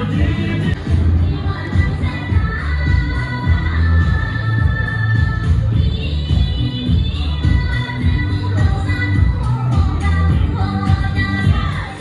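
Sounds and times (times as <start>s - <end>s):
dance music with bass beat: 0.0s - 12.0s.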